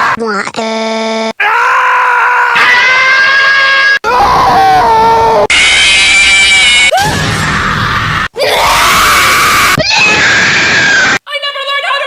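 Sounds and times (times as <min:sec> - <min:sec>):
people screaming: 0:01.4 - 0:11.2.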